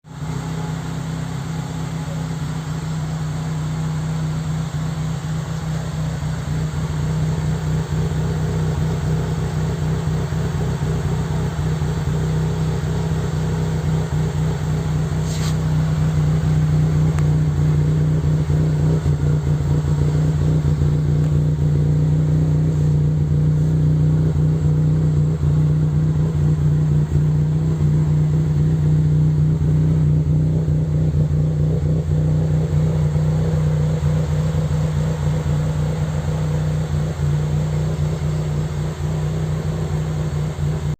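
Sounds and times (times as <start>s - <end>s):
car engine running steadily: 0.0s - 40.9s.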